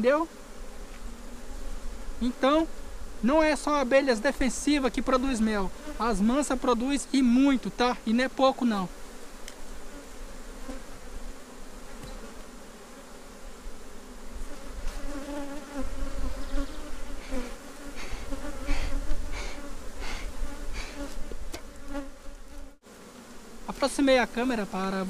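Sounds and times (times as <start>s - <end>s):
bee smoker bellows puffing: 0.0s - 25.0s
honeybees buzzing: 0.0s - 25.0s.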